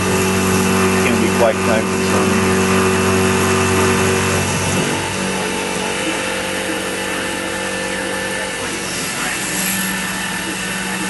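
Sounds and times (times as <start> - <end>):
milling machine motor hum: 0.0 - 11.0.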